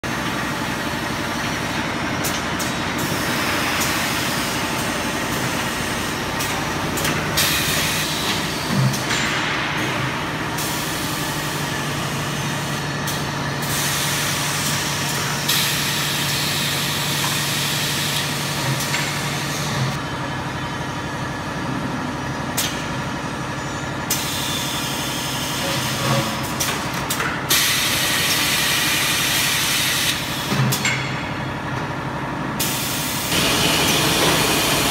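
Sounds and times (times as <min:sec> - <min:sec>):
steady machine noise: 0:00.0 - 0:25.9, 0:32.8 - 0:34.9.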